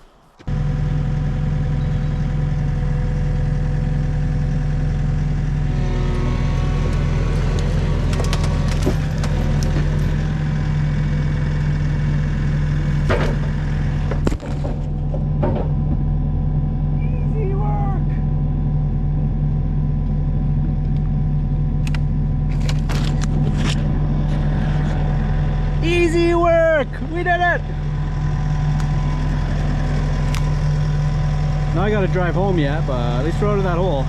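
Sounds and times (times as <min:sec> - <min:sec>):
skid steer engine running under load: 0:00.4 - 0:34.0.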